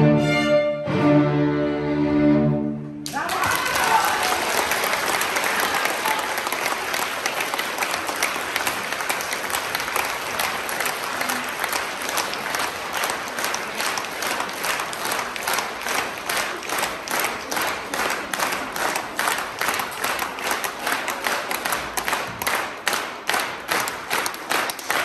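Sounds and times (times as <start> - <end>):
audience applauding: 3.0 - 25.0
rhythmic clapping in unison: 3.0 - 25.0.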